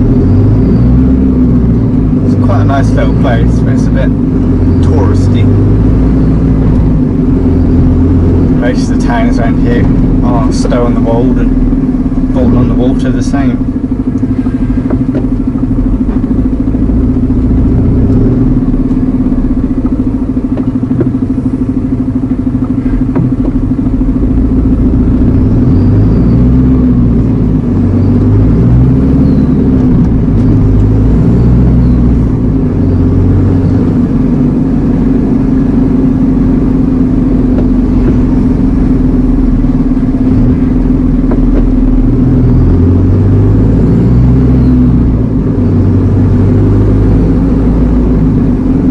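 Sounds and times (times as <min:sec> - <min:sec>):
lorry diesel engine droning: 0:00.0 - 0:48.9.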